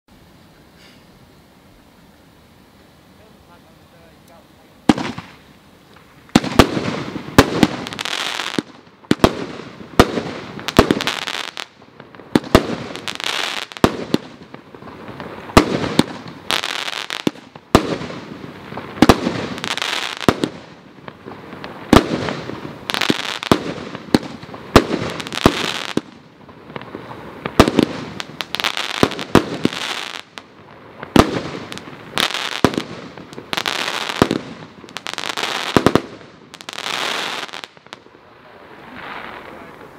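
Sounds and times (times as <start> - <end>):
firework hissing tail: 0.2 - 37.8
firework bangs: 4.8 - 39.9.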